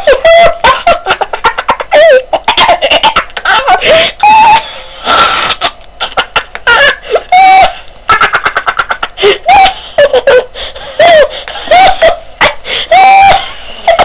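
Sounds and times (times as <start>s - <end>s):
boy laughing wildly: 0.0s - 14.0s.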